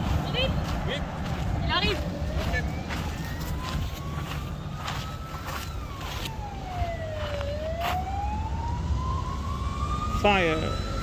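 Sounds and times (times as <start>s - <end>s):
siren wailing: 1.6s - 11.0s.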